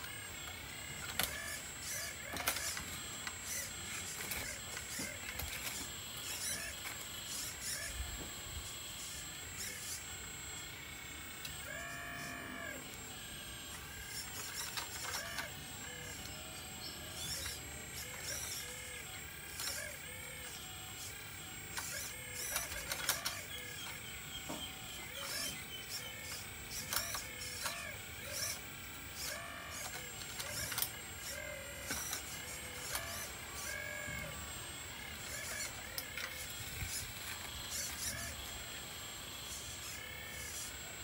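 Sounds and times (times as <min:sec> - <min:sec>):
small electric motor whining: 0:00.0 - 0:41.0.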